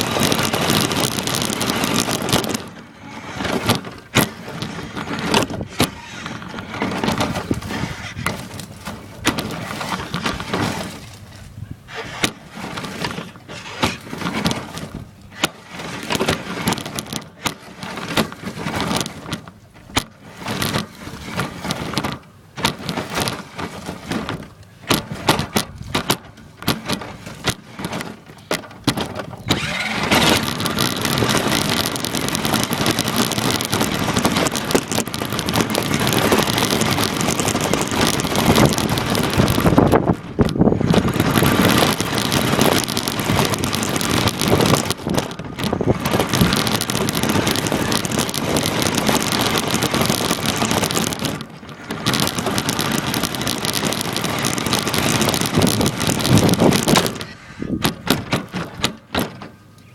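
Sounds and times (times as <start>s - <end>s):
toy car rattling and scraping: 0.0s - 59.9s.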